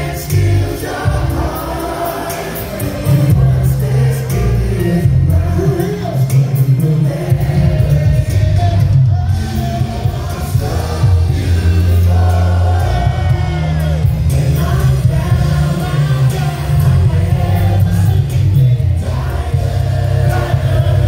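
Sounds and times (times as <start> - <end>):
live band with heavy bass: 0.0 - 21.0
vocal group singing live: 0.0 - 21.0.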